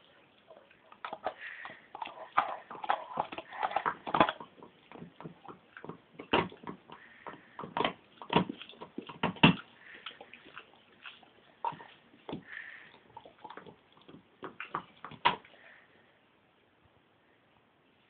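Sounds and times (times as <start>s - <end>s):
dog gnawing on antler: 0.4s - 15.5s.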